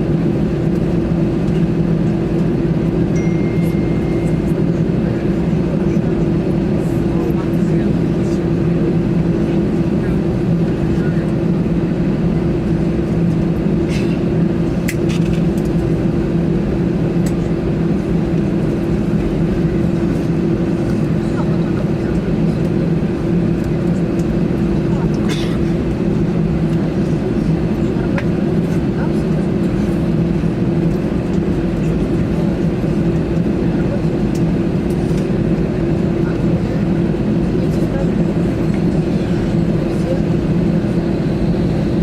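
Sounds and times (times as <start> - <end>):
jet engines humming in cabin: 0.0 - 42.0.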